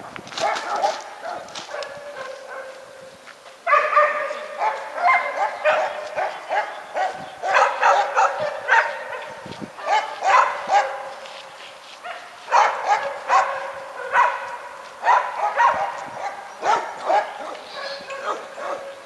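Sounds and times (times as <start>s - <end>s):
dogs barking and yelping: 0.4s - 11.4s, 12.1s - 19.0s.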